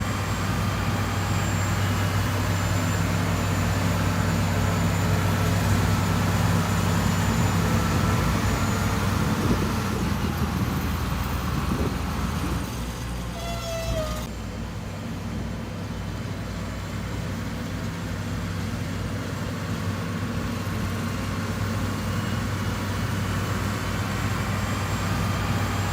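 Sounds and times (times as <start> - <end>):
diesel machinery engine drone: 0.0 - 25.9.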